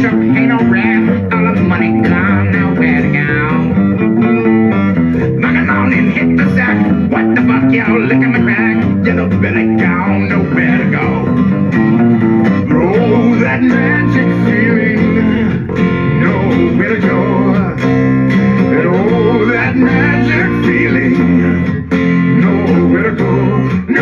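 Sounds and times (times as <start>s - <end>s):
electric guitar bending notes: 0.0s - 24.0s
plucked electric bass: 0.0s - 24.0s
rock band playing: 0.0s - 24.0s.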